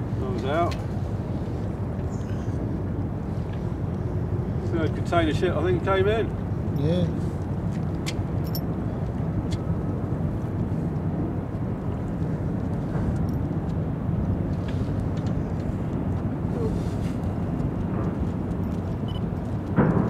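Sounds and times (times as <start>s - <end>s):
faint engine drone: 0.0s - 20.0s
low harbour rumble: 0.0s - 20.0s.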